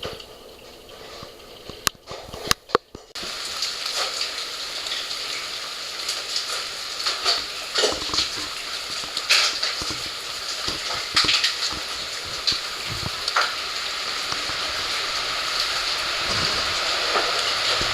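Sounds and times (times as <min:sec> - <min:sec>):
raindrops splashing: 0:00.0 - 0:17.9
steady rain falling: 0:00.0 - 0:17.9.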